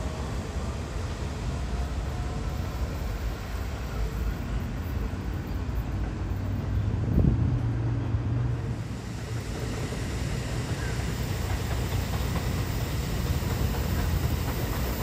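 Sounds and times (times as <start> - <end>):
train wheels and motors rumbling: 0.0 - 15.0.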